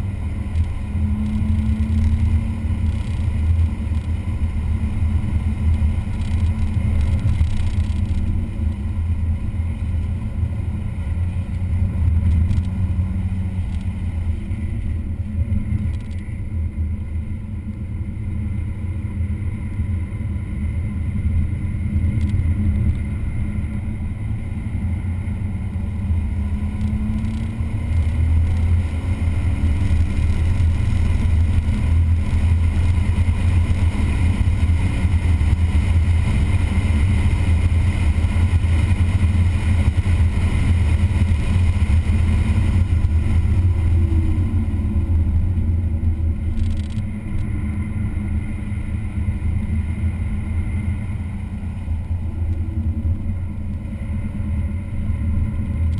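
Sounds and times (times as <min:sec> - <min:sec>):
race car engine drone: 0:00.0 - 0:55.9.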